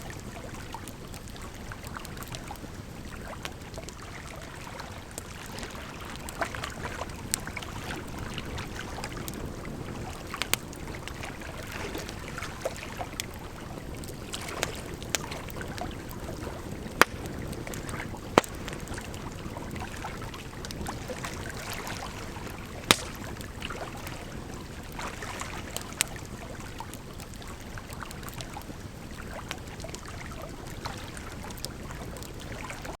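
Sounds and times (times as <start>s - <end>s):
campfire crackling: 0.0s - 32.6s
flowing water: 0.0s - 33.0s.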